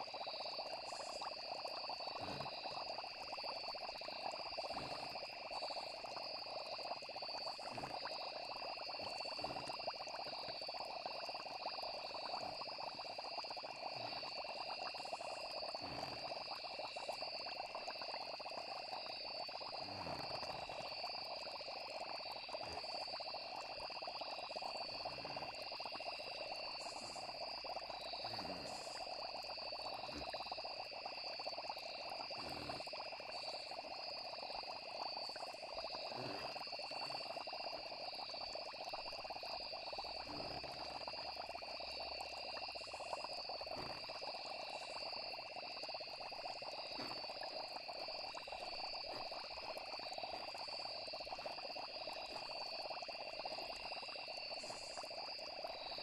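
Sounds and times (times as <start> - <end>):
crickets trilling: 0.0 - 56.0
frog chorus: 0.0 - 56.0.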